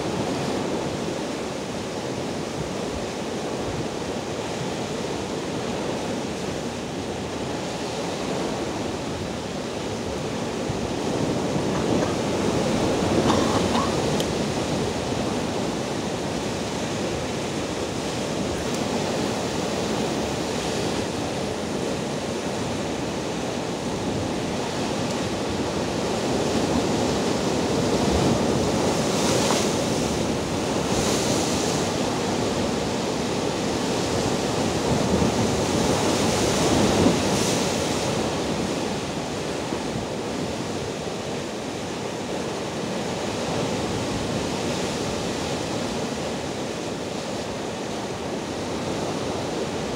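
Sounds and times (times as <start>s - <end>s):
sea surf breaking over rocks: 0.0s - 49.9s.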